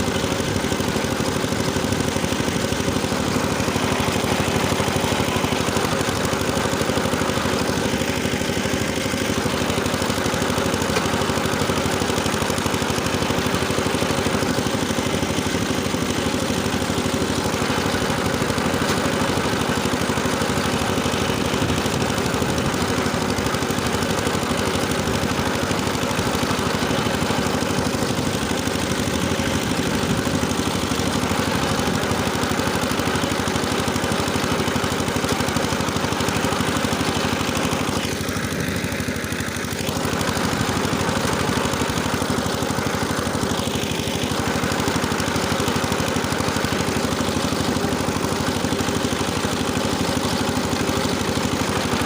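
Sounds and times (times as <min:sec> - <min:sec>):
rotary tiller engine running: 0:00.0 - 0:52.0.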